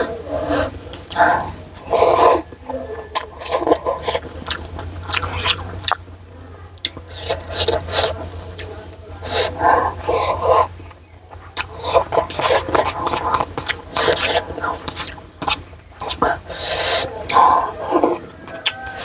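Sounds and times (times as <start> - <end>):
person chewing with crunches: 0.0 - 19.0
steady low hum: 0.0 - 19.0.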